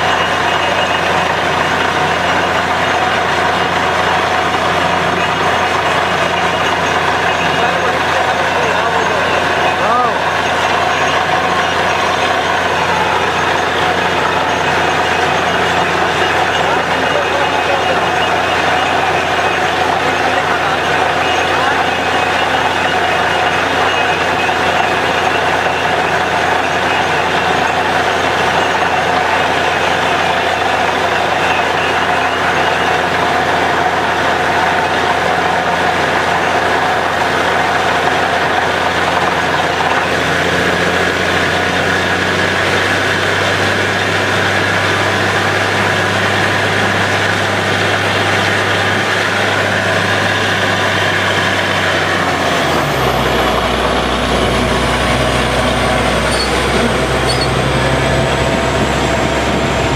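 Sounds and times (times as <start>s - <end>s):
drilling rig droning: 0.0s - 59.9s.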